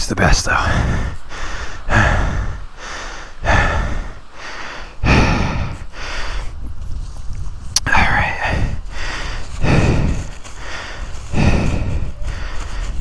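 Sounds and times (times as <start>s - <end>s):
man breathing heavily: 0.4s - 13.0s.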